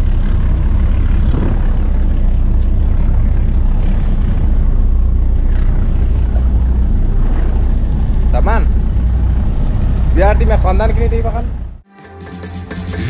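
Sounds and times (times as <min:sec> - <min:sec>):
ship engines droning: 0:00.0 - 0:11.9.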